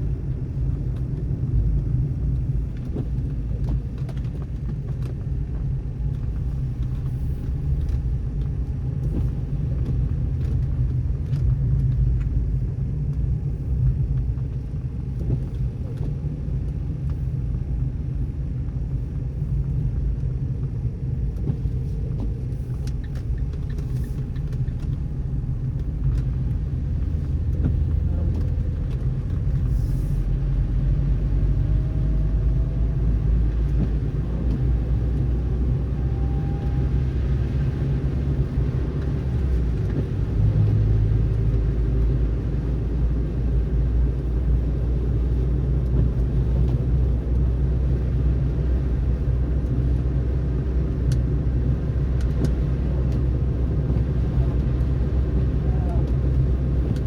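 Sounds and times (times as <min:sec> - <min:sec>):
car driving on snowy road: 0:00.0 - 0:57.0.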